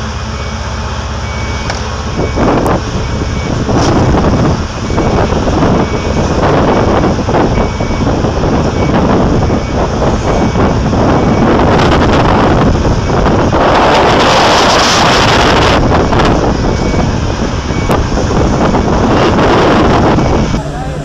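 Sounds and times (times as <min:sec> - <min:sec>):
excavator diesel engines running: 0:00.0 - 0:21.0
wind buffeting microphone: 0:01.5 - 0:21.0.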